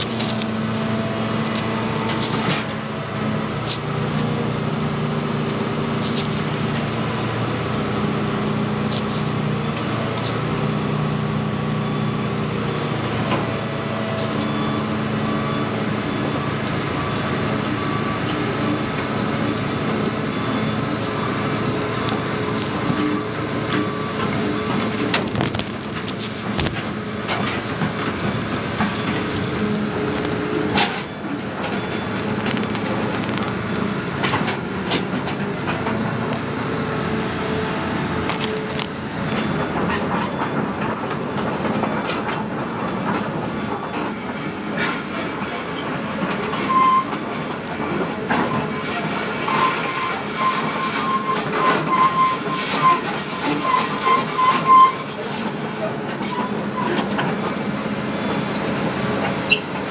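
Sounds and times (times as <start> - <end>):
excavator engine running: 0.0 - 59.9
high-pitched squeals: 11.6 - 59.9.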